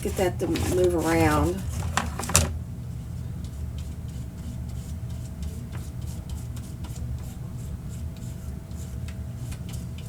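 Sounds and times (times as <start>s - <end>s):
brush scratching on paper card: 0.0s - 2.0s, 3.5s - 10.0s.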